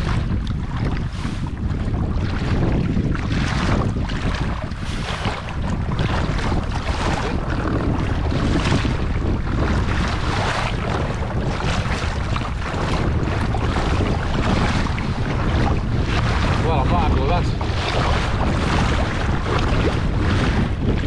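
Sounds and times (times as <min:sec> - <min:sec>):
water lapping against kayak hull: 0:00.0 - 0:21.0
wind buffeting microphone: 0:00.0 - 0:21.0.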